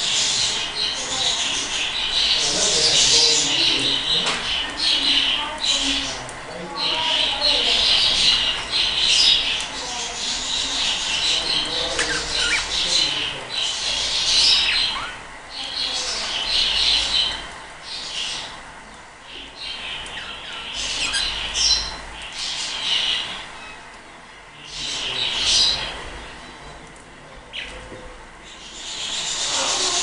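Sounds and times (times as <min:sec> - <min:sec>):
budgerigars chattering and chirping: 0:00.0 - 0:18.6, 0:19.3 - 0:23.9, 0:24.6 - 0:26.6, 0:27.4 - 0:27.8, 0:28.4 - 0:30.0.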